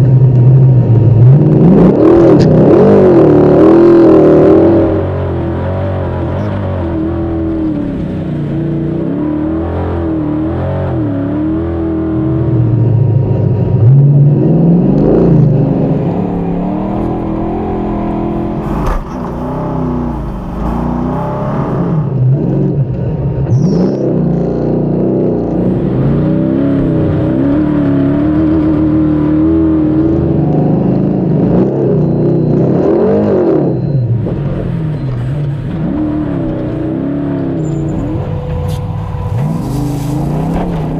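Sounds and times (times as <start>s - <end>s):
buggy engine revving: 0.0s - 40.9s.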